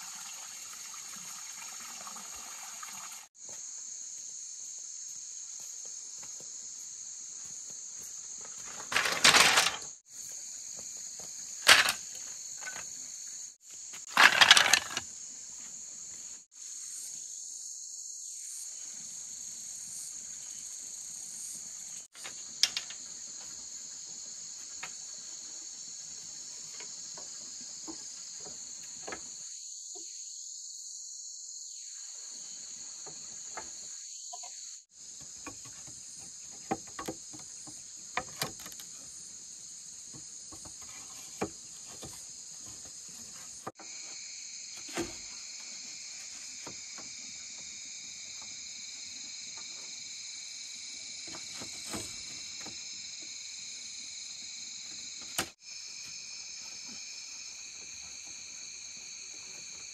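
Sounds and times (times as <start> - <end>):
insects chorus: 0.0 - 59.9.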